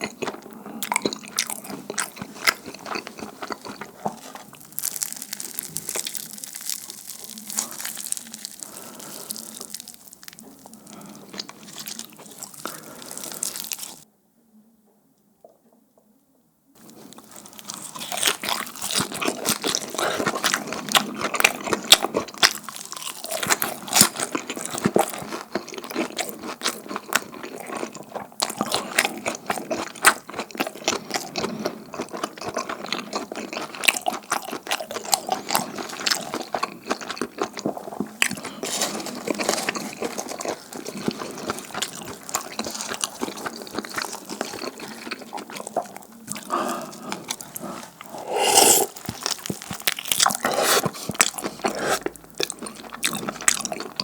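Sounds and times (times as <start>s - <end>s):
chewing and crunching food: 0.0s - 14.0s, 16.8s - 54.0s.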